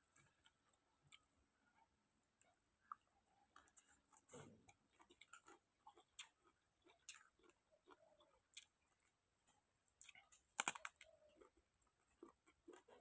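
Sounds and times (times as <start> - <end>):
mouth chewing food: 0.0 - 13.0.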